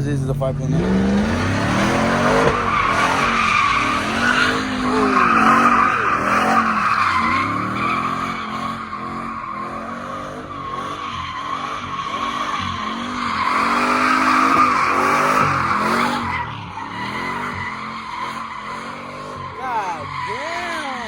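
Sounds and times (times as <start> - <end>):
car engine revving: 0.0 - 21.0
tyres squealing: 0.7 - 21.0.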